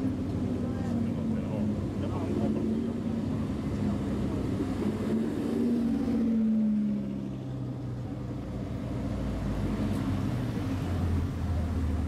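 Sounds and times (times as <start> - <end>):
sports car engine passing by: 0.0 - 12.0.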